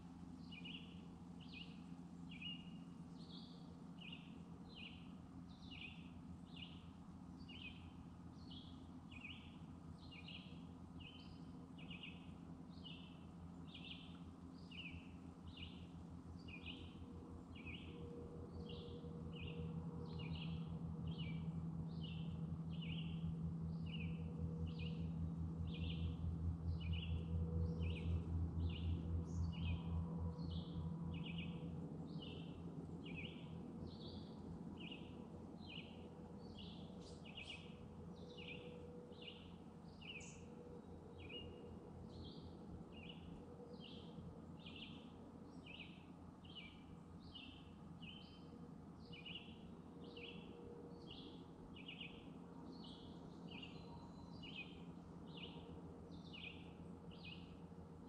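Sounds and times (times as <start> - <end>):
low pulsing hum: 0.0 - 58.0.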